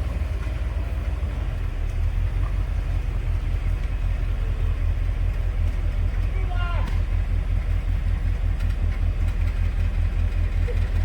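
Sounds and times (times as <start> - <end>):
vehicle engine running low: 0.0 - 11.0.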